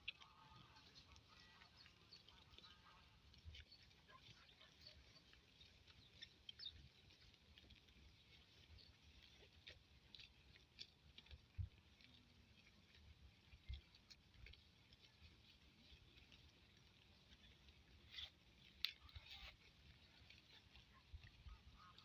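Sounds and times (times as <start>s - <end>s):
small ticks: 0.0s - 22.0s.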